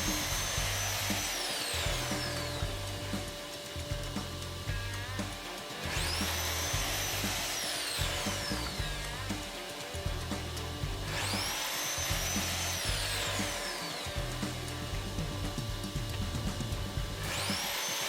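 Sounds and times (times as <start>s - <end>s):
background music: 0.0s - 18.0s
miter saw cutting wood: 0.0s - 18.0s.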